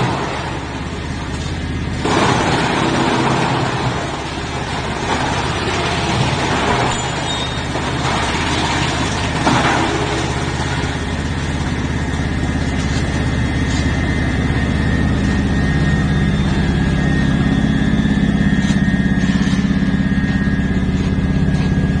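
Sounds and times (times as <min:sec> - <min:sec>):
machine high whine: 0:00.0 - 0:22.0
wood chipper chipping wood: 0:00.0 - 0:22.0.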